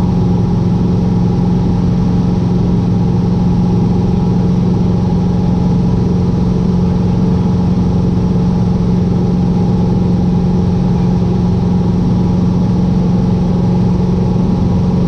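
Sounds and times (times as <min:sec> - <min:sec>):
airplane engine drone in cockpit: 0:00.0 - 0:15.0.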